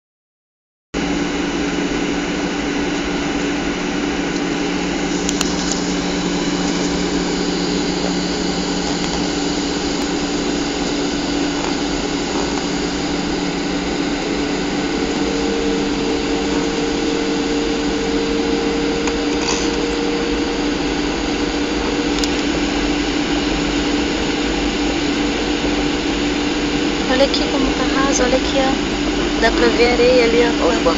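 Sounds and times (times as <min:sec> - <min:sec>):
jet cabin rushing noise: 0:01.0 - 0:30.9
steady hum: 0:01.0 - 0:30.9.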